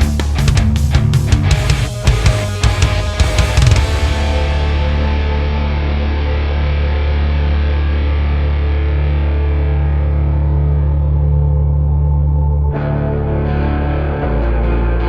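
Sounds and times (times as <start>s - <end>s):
distorted electric guitar chord: 0.0s - 15.0s.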